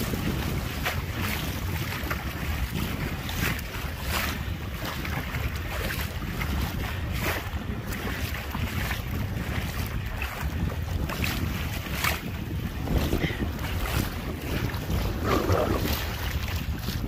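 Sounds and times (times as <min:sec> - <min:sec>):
small waves splashing on shore: 0:00.0 - 0:17.0
wind buffeting microphone: 0:00.0 - 0:17.0.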